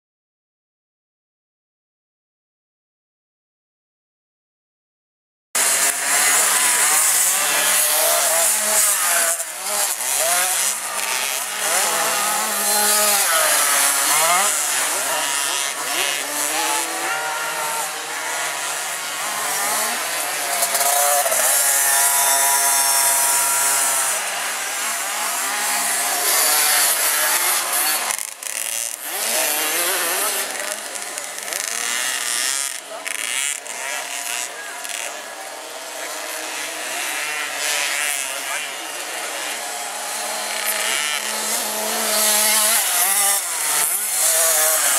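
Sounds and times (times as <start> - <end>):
dirt bike engines revving: 5.6 - 44.9.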